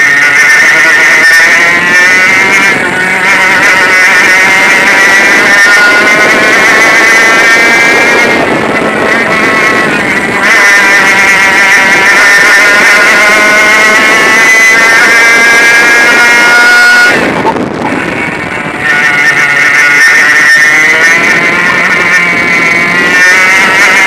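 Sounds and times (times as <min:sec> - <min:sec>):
kart engine at high revs: 0:00.0 - 0:24.0.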